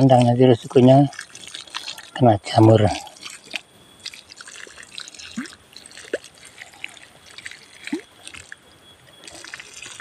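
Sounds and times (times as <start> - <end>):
water dripping into wet soil: 0.0 - 10.0.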